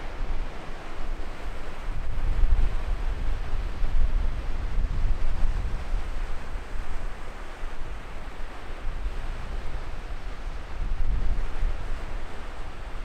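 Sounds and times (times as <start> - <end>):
wind buffeting microphone: 0.0 - 8.1, 8.8 - 13.0.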